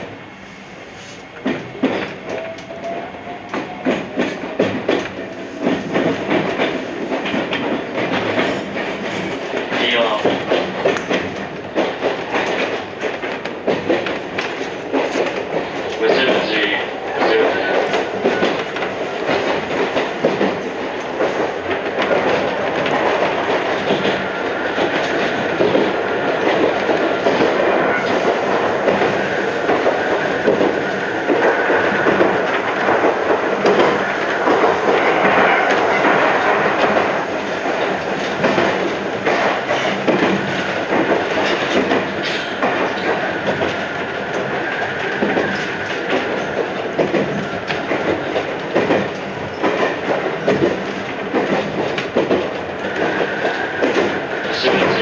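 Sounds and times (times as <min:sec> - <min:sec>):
train running noise: 0:00.0 - 0:55.0
wheels clacking over rail joints: 0:01.4 - 0:55.0.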